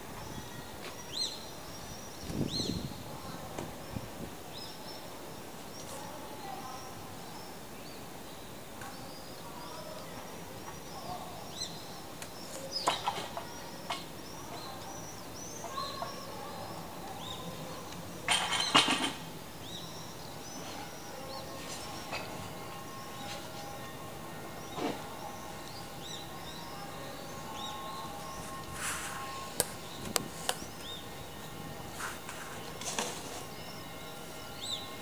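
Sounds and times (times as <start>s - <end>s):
outdoor background noise: 0.0s - 35.0s
small birds chirping: 0.0s - 35.0s.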